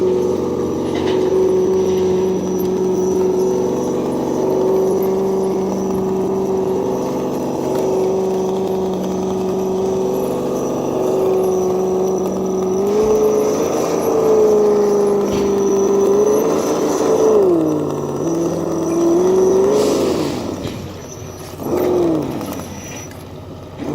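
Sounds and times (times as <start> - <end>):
thin high whine: 0.0 - 23.3
simulated engine sound from speaker: 0.0 - 23.9.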